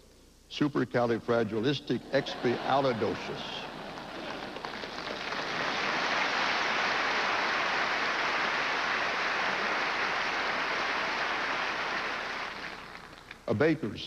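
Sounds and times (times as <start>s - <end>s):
audience applauding: 2.2s - 13.4s.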